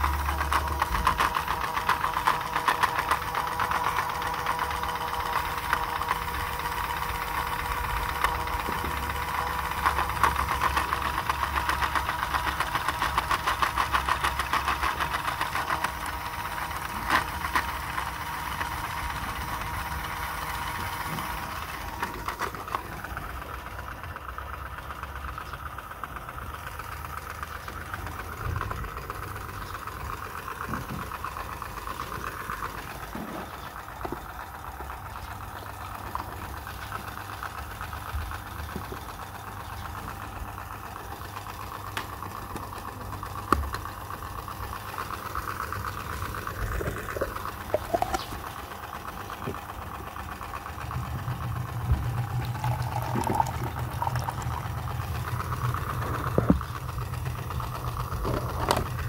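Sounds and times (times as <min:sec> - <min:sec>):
toy motor buzzing: 0:00.0 - 0:59.0.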